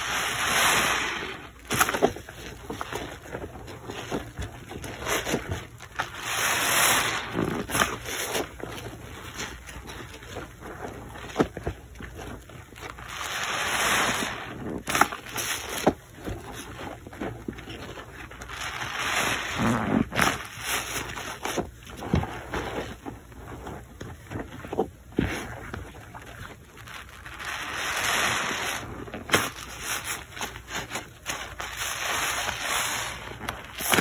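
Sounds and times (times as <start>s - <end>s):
sponge squelching: 0.0s - 34.0s.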